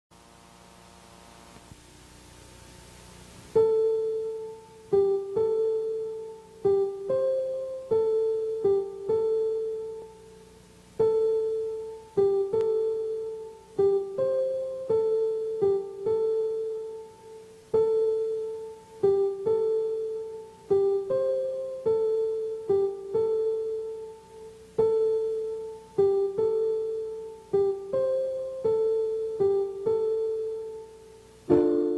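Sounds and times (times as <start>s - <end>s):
faint hiss: 0.1s - 31.9s
slow piano melody: 3.5s - 31.9s.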